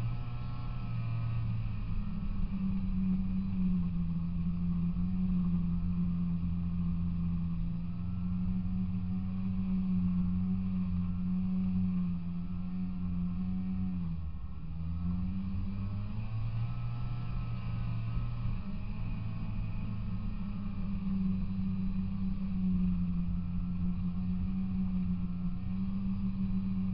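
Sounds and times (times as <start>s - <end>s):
snowmobile two-stroke engine running: 0.0s - 26.9s.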